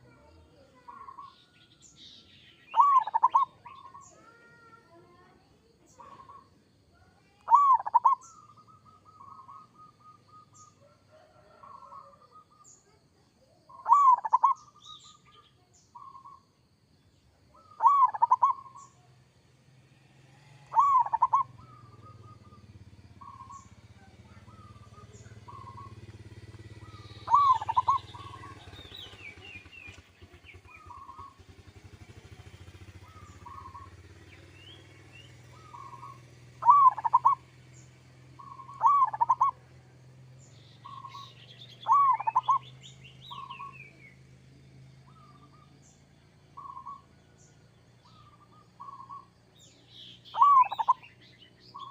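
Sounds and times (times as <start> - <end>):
dove cooing song: 0.0 - 1.4, 2.6 - 16.5, 17.5 - 19.1, 20.4 - 44.0, 44.8 - 51.9.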